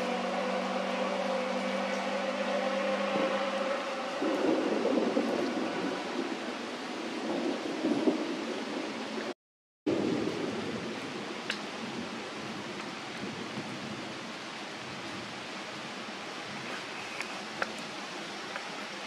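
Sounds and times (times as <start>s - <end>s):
outdoor background hiss: 0.0s - 9.3s, 10.0s - 19.0s.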